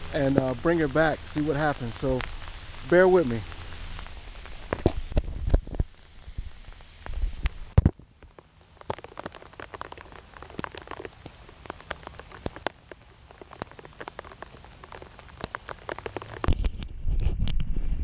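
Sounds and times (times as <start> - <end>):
raindrops ticking on camera: 0.0 - 16.9.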